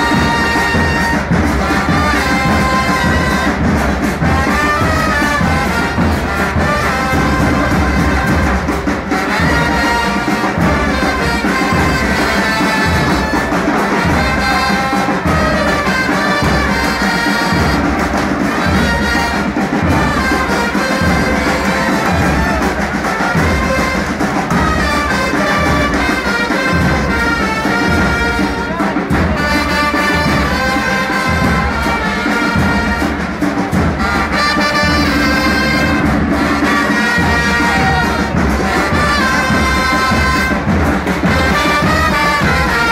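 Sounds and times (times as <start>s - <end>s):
brass band playing: 0.0s - 42.9s
steady bass drum beat: 0.0s - 42.9s.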